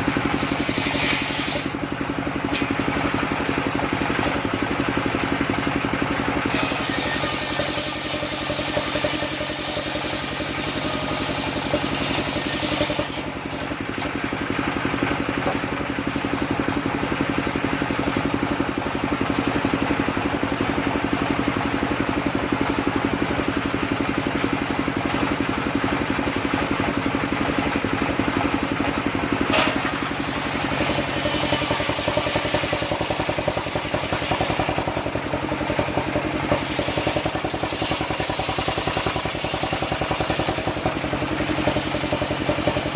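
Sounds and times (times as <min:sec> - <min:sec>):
sawmill engine humming: 0:00.0 - 0:42.9.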